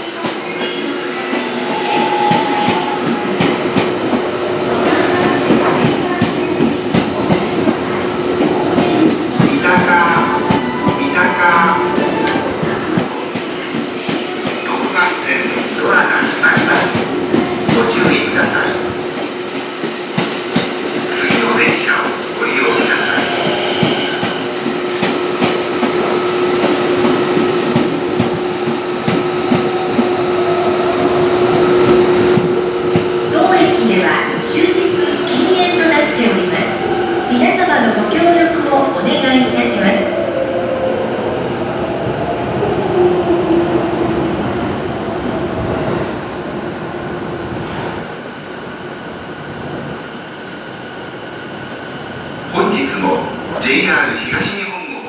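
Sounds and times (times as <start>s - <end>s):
steady train hum: 0.0s - 55.0s.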